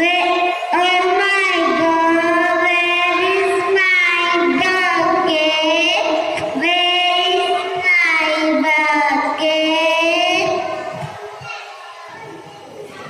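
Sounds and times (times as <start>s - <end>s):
child singing into a microphone: 0.0s - 13.0s.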